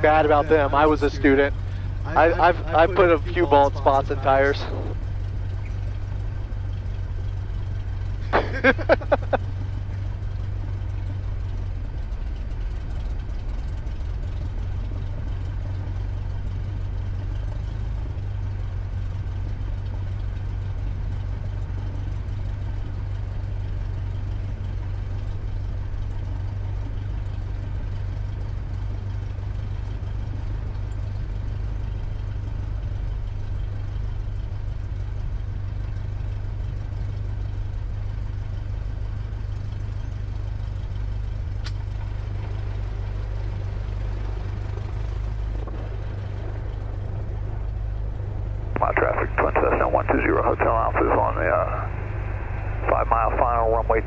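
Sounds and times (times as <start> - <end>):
plane engine droning at idle: 0.0 - 54.0.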